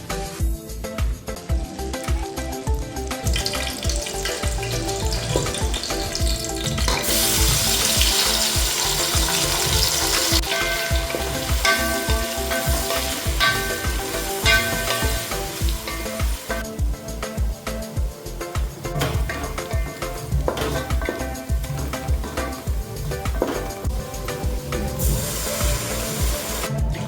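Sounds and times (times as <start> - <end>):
background music with beat: 0.0 - 27.0
food sizzling in oil: 1.7 - 26.9
stirring in a pan: 3.2 - 26.6.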